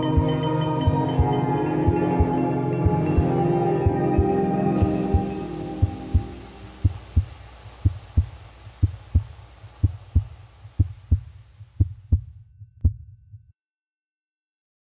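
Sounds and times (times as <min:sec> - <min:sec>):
heartbeat thumps: 0:00.2 - 0:13.4.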